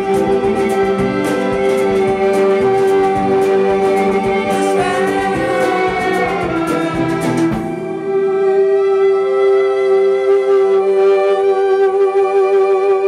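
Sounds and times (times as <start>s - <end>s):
steady held tone: 0.0s - 11.0s
violin bowed notes: 0.0s - 13.0s.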